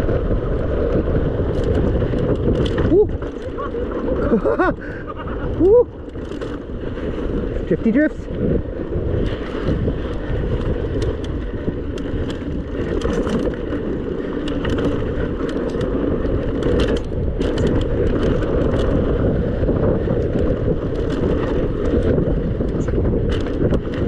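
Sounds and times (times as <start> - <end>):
bike clicking and rattling: 0.0 - 24.0
tyres rumbling on dirt: 0.0 - 24.0
wind on microphone: 0.0 - 24.0.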